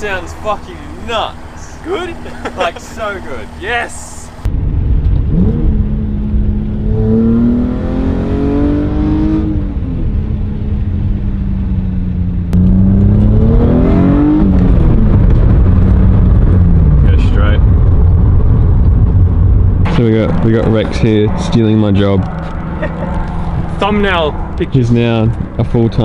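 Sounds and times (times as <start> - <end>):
car engine revving: 0.0 - 11.2, 12.5 - 19.3, 19.9 - 25.8.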